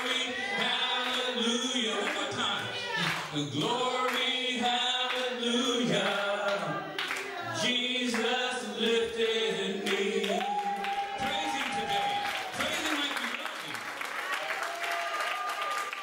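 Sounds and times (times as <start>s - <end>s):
congregation singing: 0.0s - 13.6s
man's voice leading singing: 0.0s - 13.7s.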